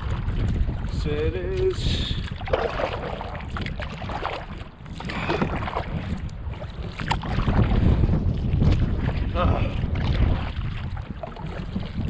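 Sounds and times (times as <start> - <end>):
water splashing at canoe: 0.0 - 12.0
wind buffeting microphone: 0.0 - 12.0.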